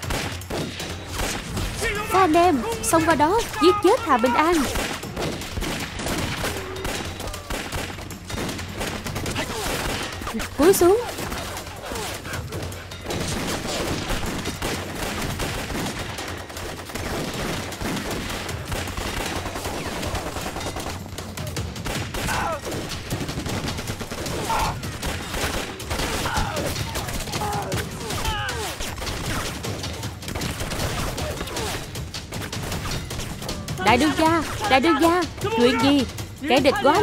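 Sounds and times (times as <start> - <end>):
dense overlapping gunfire: 0.0 - 37.0.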